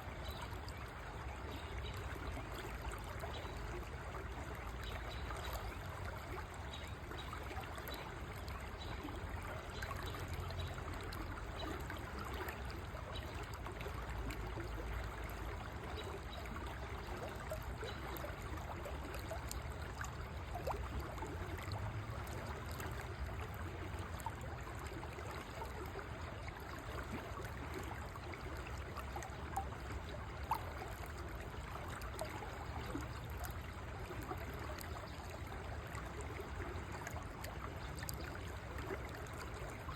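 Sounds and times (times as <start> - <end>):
river water flowing: 0.0 - 39.9
water ticks: 0.1 - 39.9.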